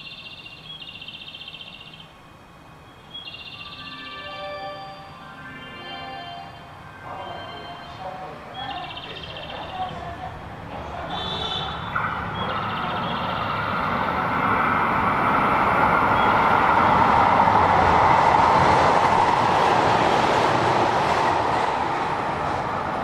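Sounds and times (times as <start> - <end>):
diesel train passing: 0.1 - 23.0.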